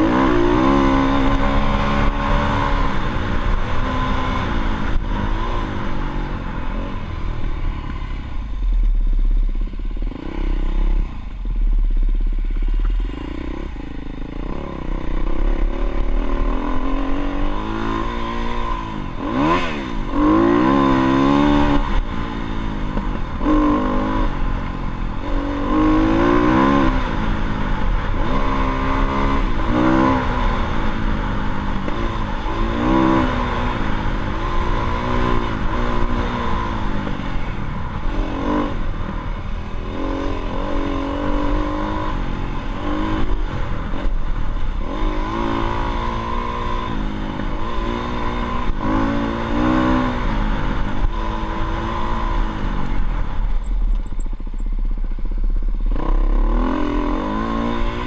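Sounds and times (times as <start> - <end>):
dirt bike engine revving: 0.0 - 53.5, 55.9 - 58.0.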